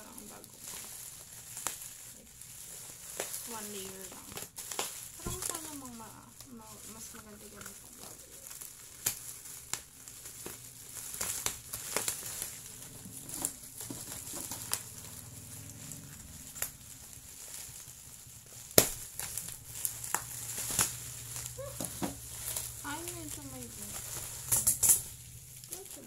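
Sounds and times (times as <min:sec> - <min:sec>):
bubble wrap crinkling: 0:00.0 - 0:26.0
bubble wrap snap: 0:00.0 - 0:26.0.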